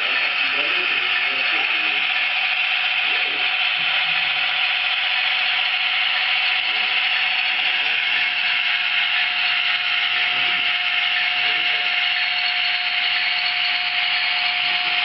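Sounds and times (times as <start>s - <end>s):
model locomotive whine and hiss: 0.0s - 15.0s.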